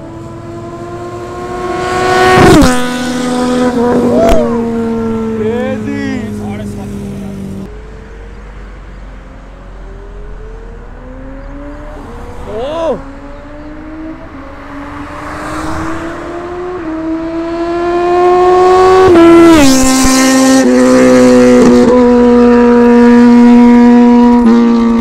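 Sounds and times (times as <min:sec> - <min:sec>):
motorcycle passing at high speed: 0:00.0 - 0:25.0.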